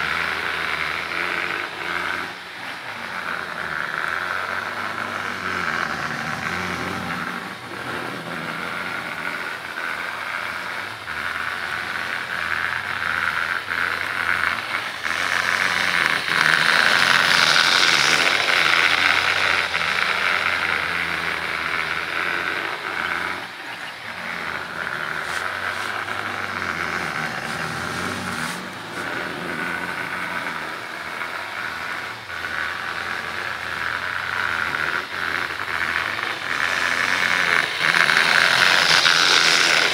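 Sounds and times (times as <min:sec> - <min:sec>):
model train whirring and rattling: 0:00.0 - 0:39.9.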